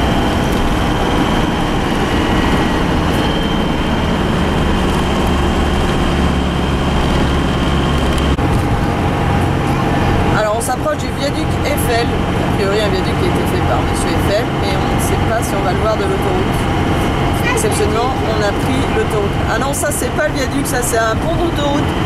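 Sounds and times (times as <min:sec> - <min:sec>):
constant high whine: 0:00.0 - 0:22.0
engine and road noise: 0:00.0 - 0:22.0.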